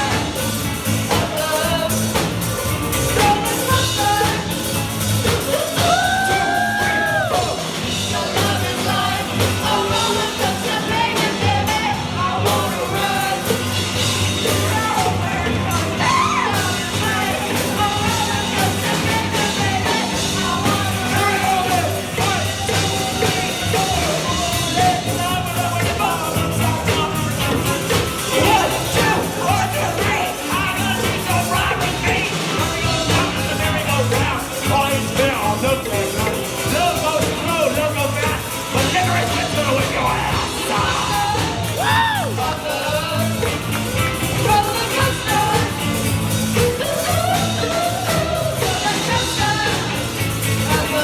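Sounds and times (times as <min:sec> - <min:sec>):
person singing lead vocal: 0:00.0 - 0:51.0
rock band playing: 0:00.0 - 0:51.0.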